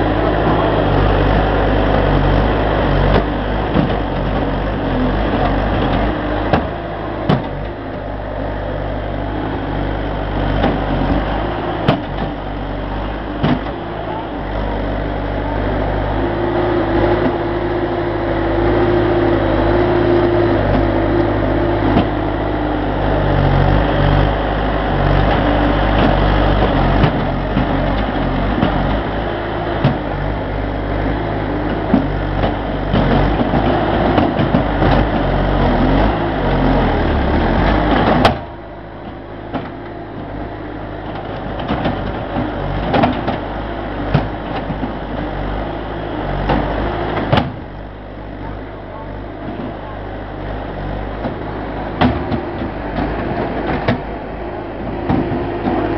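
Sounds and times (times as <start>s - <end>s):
heavy engine running: 0.0s - 55.9s.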